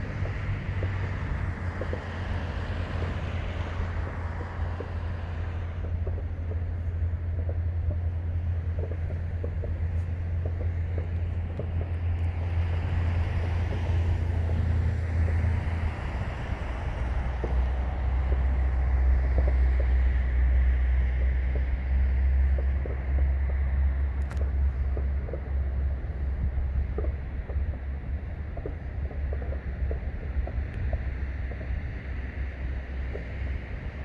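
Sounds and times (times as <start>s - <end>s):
road traffic: 0.0s - 34.0s
wind buffeting microphone: 0.0s - 34.0s.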